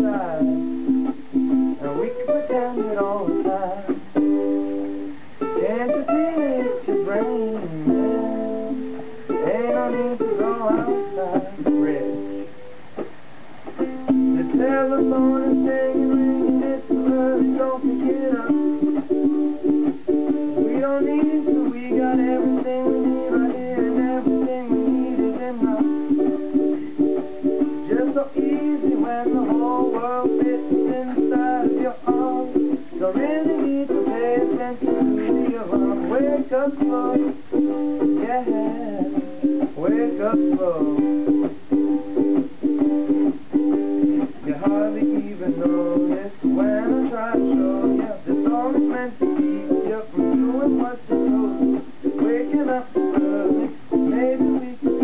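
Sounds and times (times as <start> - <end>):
ukuleles strummed: 0.0 - 55.0.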